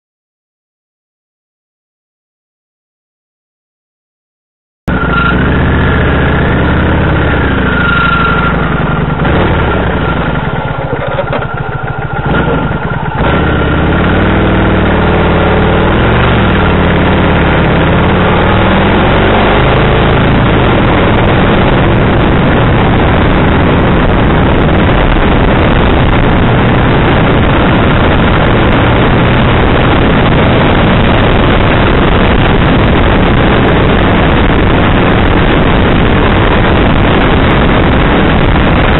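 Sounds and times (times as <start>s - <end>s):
motorcycle engine: 4.9s - 38.9s
wind rush: 5.2s - 38.9s.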